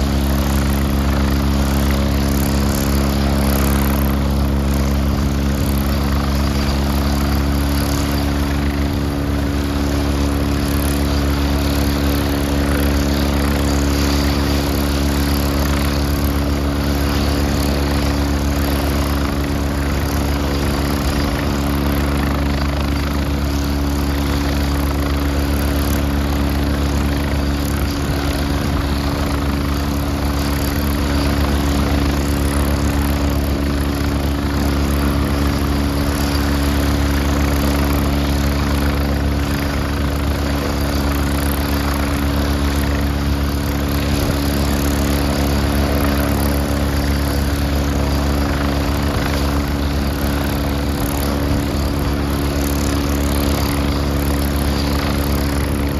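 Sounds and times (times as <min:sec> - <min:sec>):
helicopter rotor and turbine drone: 0:00.0 - 0:55.9.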